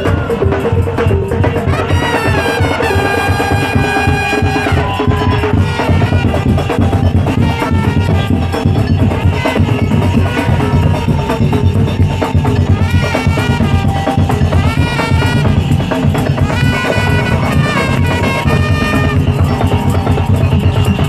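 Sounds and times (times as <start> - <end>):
loud dense drumming: 0.0 - 21.0
reedy melody: 0.0 - 21.0.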